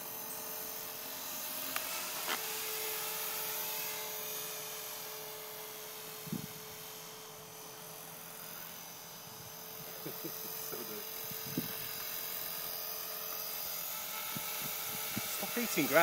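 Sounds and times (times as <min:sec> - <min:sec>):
model helicopter motor whine: 0:00.0 - 0:16.0.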